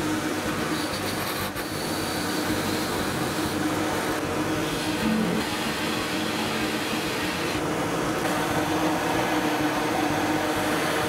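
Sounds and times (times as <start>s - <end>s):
dust extraction vacuum running: 0.0s - 11.0s.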